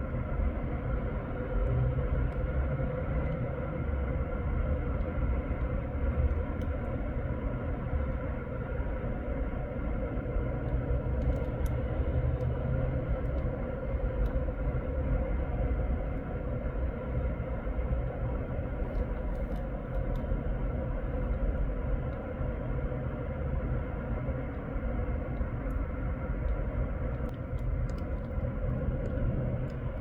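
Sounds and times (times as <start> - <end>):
faint drone: 0.0 - 30.0.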